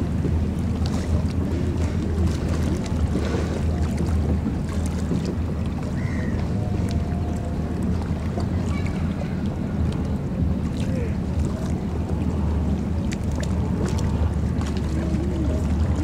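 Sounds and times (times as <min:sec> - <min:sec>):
boat engines rumbling: 0:00.0 - 0:16.0.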